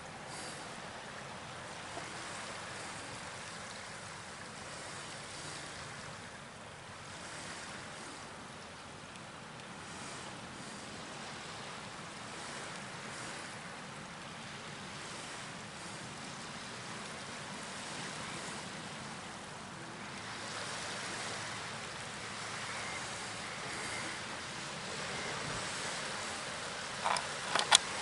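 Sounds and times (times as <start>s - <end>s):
water and wind rushing: 0.0s - 28.0s.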